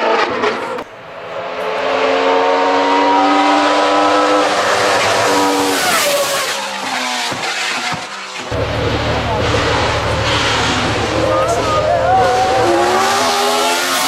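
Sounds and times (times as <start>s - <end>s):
race car engine screaming: 0.0s - 14.0s.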